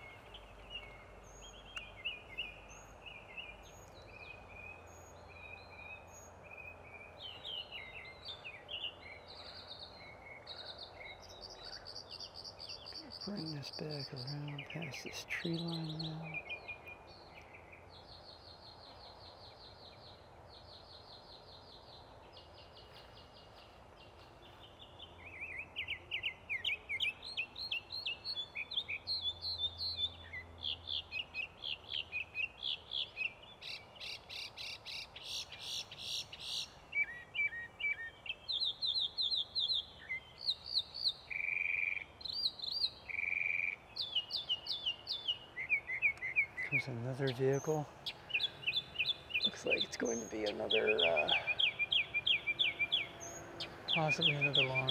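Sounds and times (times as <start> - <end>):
birds singing: 0.0 - 54.9.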